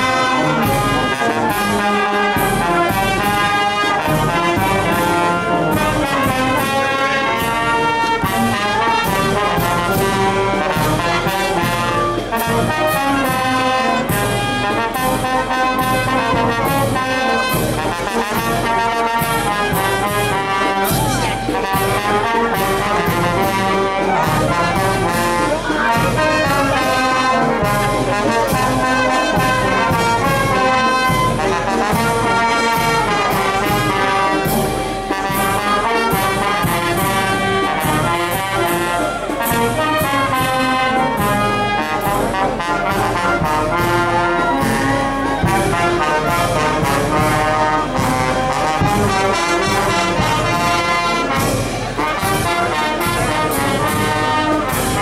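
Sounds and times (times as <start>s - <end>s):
brass band playing melody: 0.0s - 55.0s
steady percussion beat: 0.0s - 55.0s.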